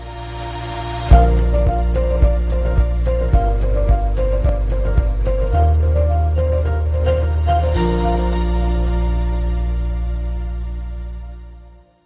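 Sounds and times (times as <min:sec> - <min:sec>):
electronic intro music: 0:00.0 - 0:11.8.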